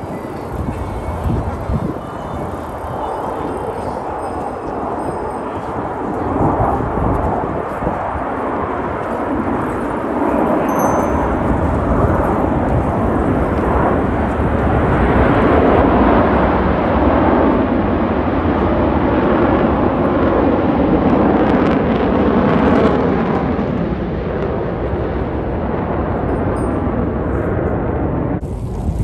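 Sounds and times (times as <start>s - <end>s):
jet engines passing overhead: 0.0s - 29.0s.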